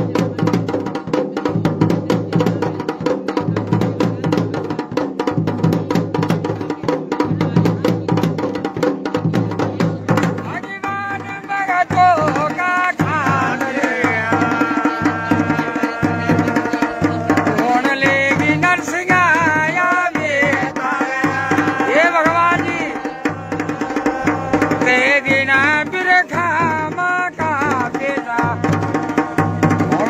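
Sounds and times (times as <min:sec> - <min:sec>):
folk drums playing: 0:00.0 - 0:30.0.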